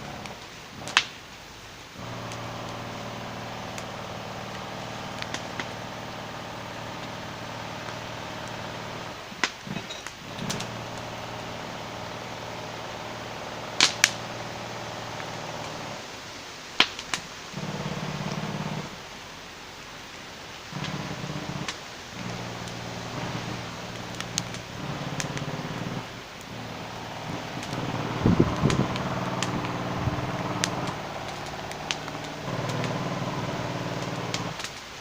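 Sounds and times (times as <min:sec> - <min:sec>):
bonfire crackling: 0:00.0 - 0:35.0
steady low hum: 0:01.8 - 0:16.0, 0:20.6 - 0:34.6.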